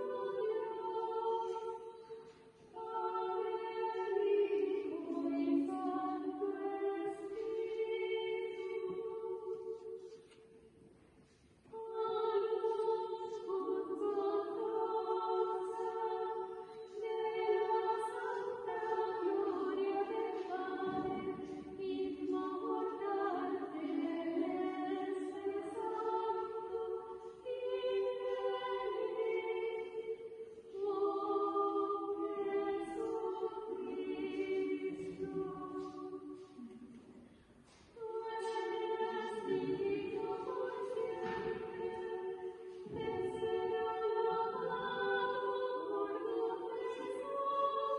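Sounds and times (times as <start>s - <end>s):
choir singing unaccompanied: 0.0s - 10.2s, 11.7s - 37.0s, 37.7s - 47.9s.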